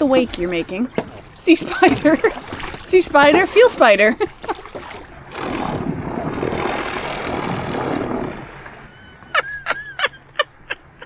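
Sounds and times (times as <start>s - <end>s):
motorboat engine drone: 0.0s - 11.0s
rushing water: 0.0s - 11.0s.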